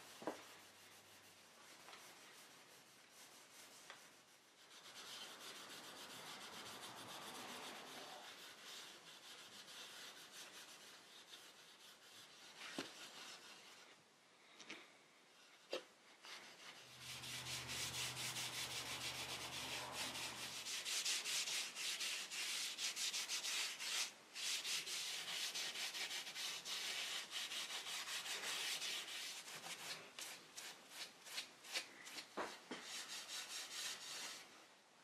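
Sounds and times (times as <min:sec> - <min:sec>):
steel wool scratching wood: 0:00.0 - 0:13.9, 0:15.6 - 0:34.5.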